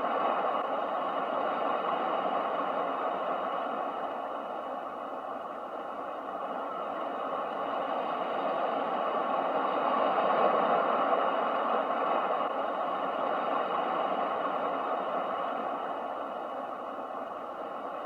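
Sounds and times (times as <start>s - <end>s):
ocean surf rushing: 0.0s - 18.0s.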